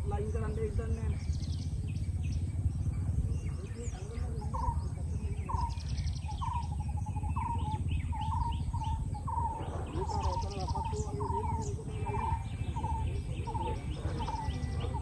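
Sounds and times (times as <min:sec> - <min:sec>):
steady low rumble: 0:00.0 - 0:15.0
high bird chirps: 0:01.1 - 0:15.0.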